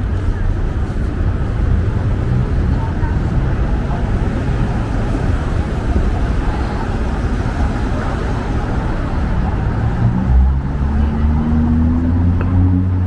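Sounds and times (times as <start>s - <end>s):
cars passing: 0.0s - 13.0s
vehicle engine humming: 0.0s - 13.0s.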